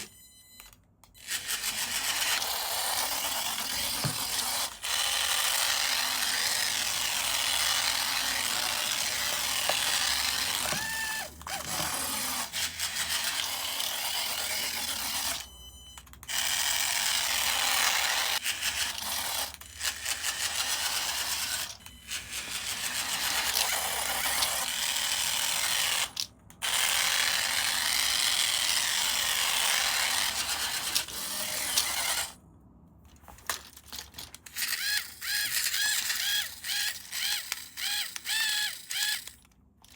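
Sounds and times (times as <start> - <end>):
toy electric motor and gears: 1.2 - 32.4, 33.4 - 39.9.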